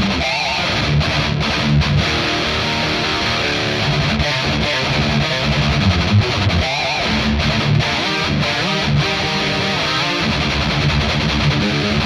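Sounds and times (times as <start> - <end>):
distorted electric guitar riff: 0.0 - 12.0.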